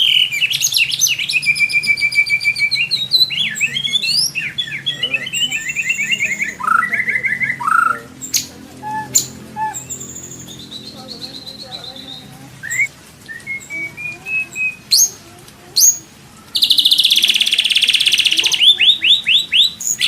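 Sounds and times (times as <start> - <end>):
bird singing whistles and chirps: 0.0 - 15.2, 15.8 - 20.0.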